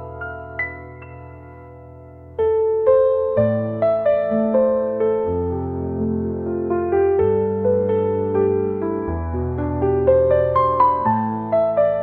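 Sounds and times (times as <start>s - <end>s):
slow soft piano music: 0.0s - 12.0s.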